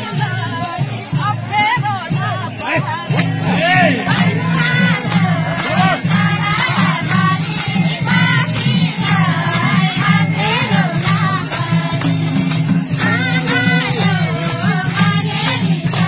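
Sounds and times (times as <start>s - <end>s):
group singing folk song: 0.0s - 16.0s
jingling beat: 0.0s - 16.0s.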